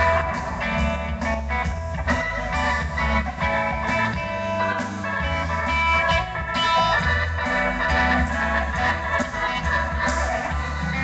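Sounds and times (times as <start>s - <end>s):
live band playing amplified music: 0.0s - 11.0s
pulsing bass line: 0.0s - 11.0s.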